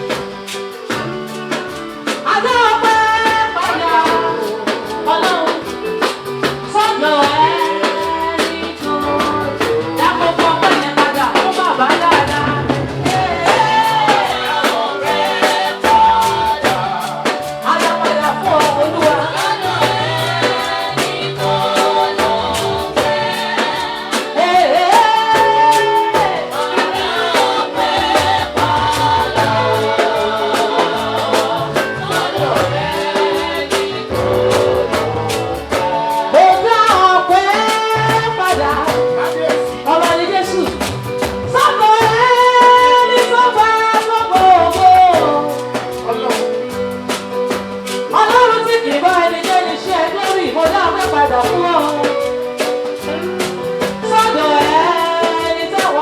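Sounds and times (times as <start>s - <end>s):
gospel singing over a band: 0.0s - 56.0s.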